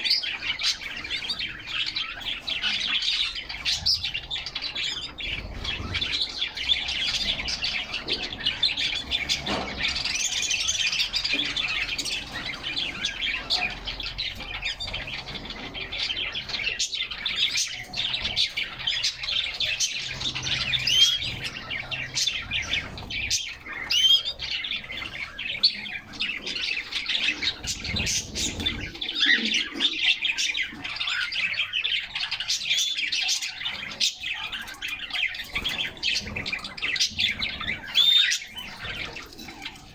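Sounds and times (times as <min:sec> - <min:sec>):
canaries chirping and singing: 0:00.0 - 0:39.9.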